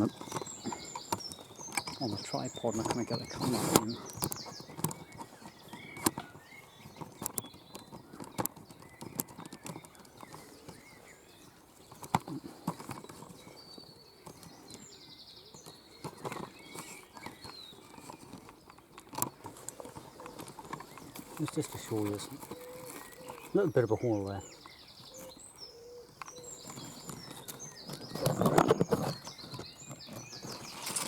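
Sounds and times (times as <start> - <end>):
small birds chirping faintly: 0.0 - 31.0.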